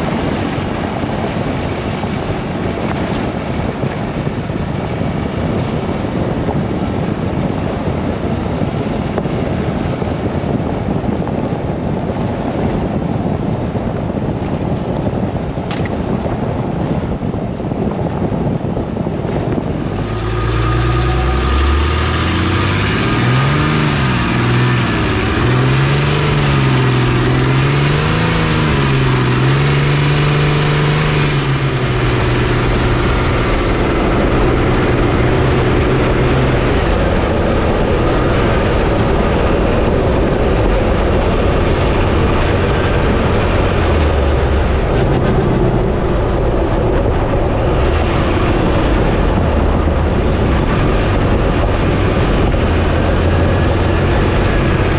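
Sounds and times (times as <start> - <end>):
road and wind noise: 0.0 - 54.9
truck engine running: 0.0 - 54.9.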